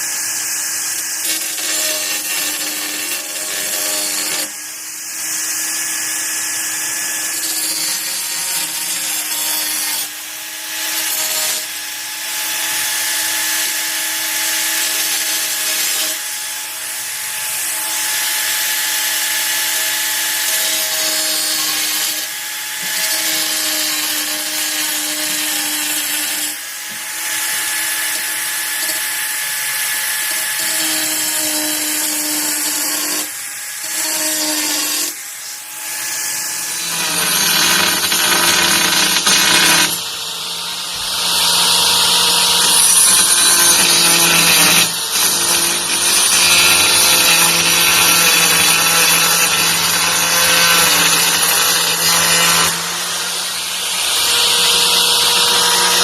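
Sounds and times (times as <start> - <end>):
angle grinder whining: 0.0 - 56.0.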